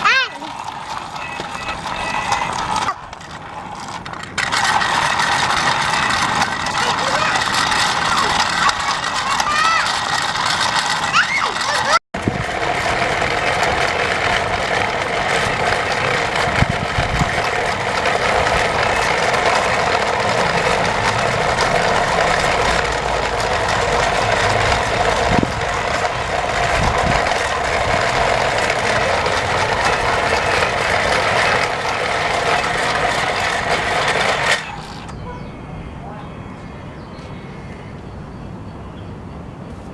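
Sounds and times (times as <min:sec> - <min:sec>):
toy train motor whirring: 0:00.0 - 0:35.2.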